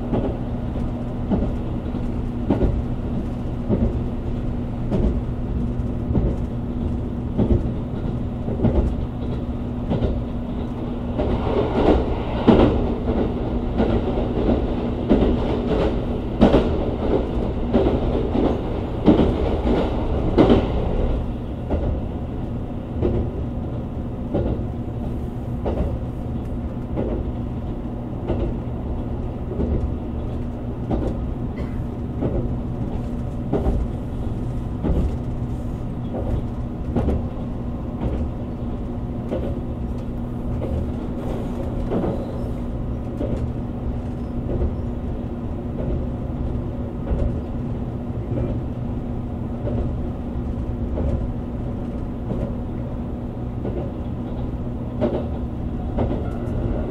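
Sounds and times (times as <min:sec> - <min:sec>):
train cabin low hum: 0:00.0 - 0:56.9.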